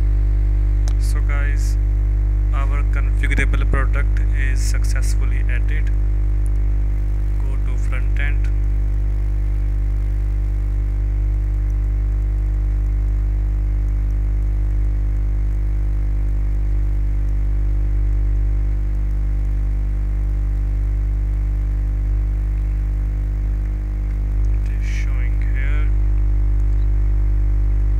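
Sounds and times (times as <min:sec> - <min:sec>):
electrical hum: 0:00.0 - 0:27.9.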